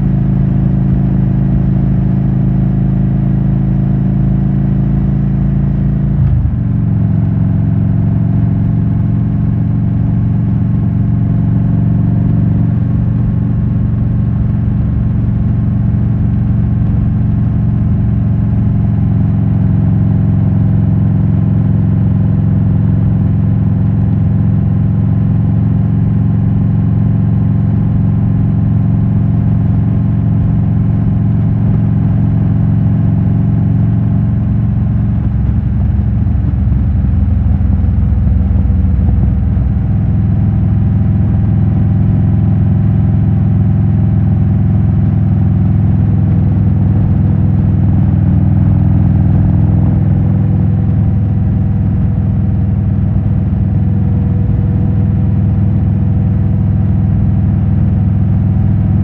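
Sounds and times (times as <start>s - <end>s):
motorcycle engine riding: 0.0s - 58.9s.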